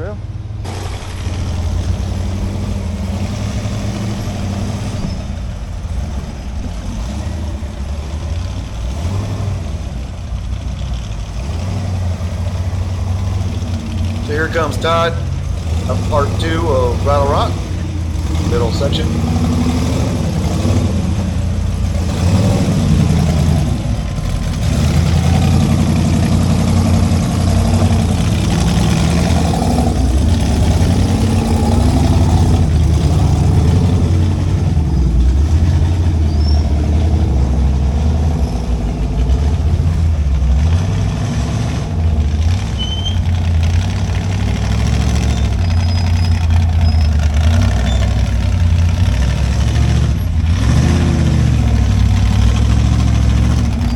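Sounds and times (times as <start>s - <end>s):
engine revving at low revs: 0.0s - 53.9s.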